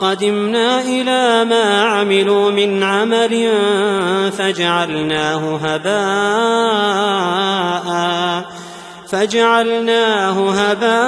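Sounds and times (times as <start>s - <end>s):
person chanting recitation: 0.0s - 11.0s.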